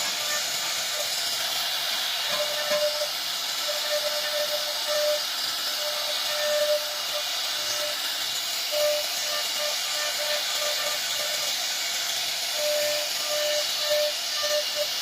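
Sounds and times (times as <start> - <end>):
spindle tone: 0.0 - 1.2, 2.2 - 8.0, 8.7 - 11.6, 12.6 - 15.0
router cutting wood: 0.0 - 15.0.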